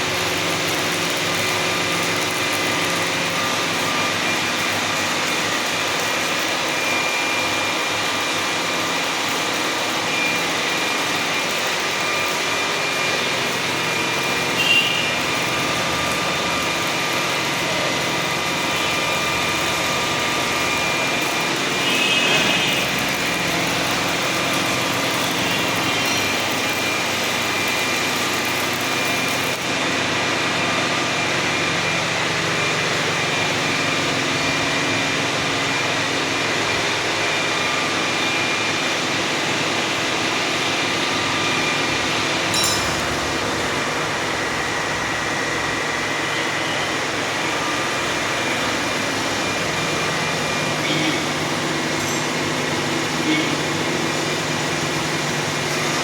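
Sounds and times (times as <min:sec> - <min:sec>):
high machine whine: 0:00.0 - 0:56.0.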